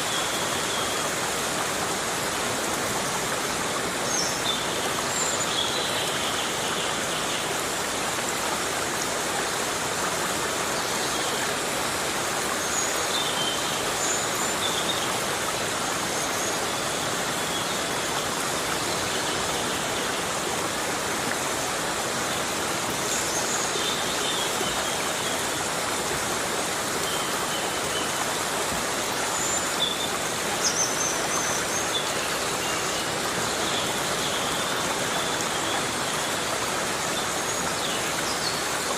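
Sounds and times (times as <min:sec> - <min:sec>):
heavy rain in a forest: 0:00.0 - 0:38.9.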